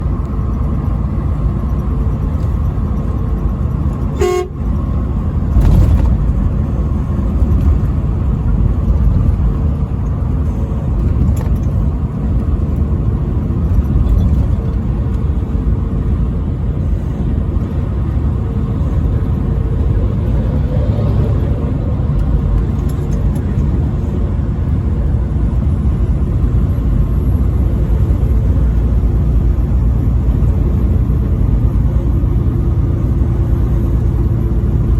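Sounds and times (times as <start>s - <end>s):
vehicle road and engine rumble: 0.0s - 34.9s.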